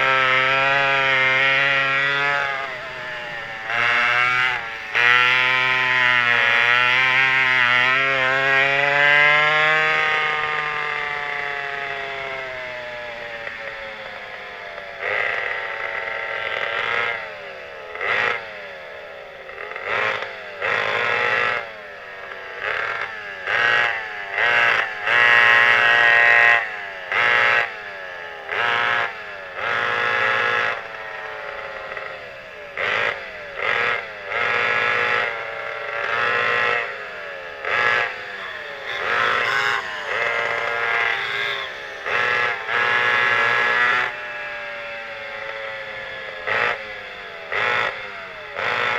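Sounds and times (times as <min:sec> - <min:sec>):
kart engines revving: 0:00.0 - 0:48.9.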